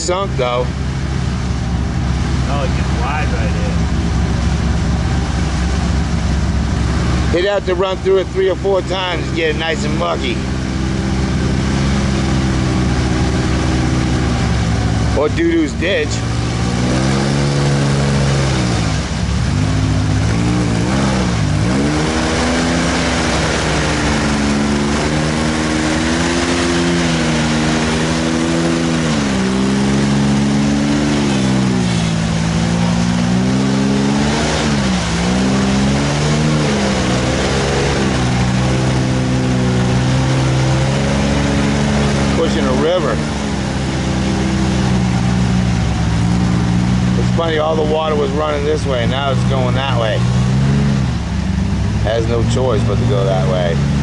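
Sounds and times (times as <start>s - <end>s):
truck engine revving: 0.0s - 54.0s
water and mud churning hiss: 0.0s - 54.0s.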